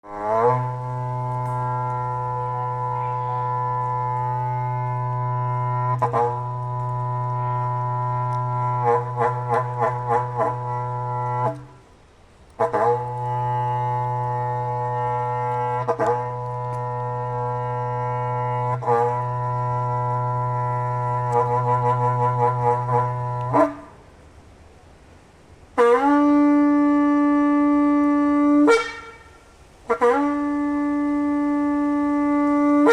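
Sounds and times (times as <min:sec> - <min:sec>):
cattle horn blown: 0:00.0 - 0:11.9, 0:12.5 - 0:24.1, 0:25.8 - 0:32.9.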